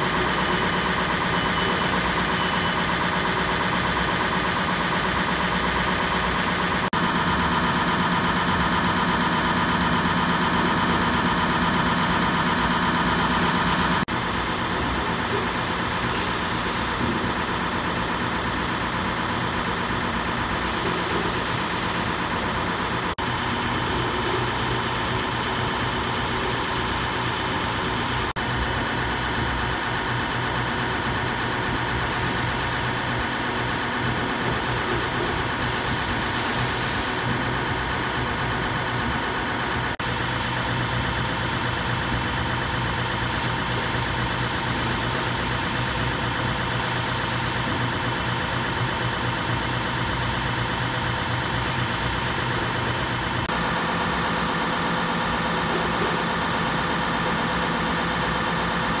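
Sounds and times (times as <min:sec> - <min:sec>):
machinery humming: 0:00.0 - 0:59.0.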